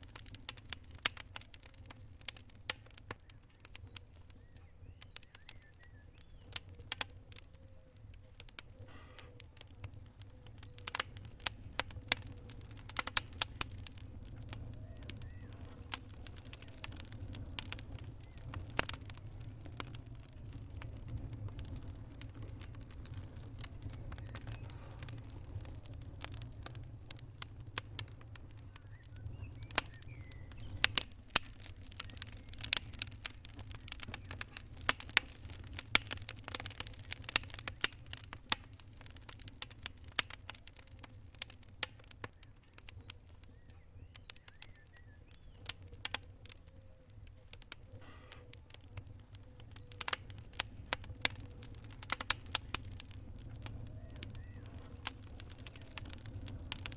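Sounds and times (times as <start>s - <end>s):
fire crackling: 0.0s - 56.9s.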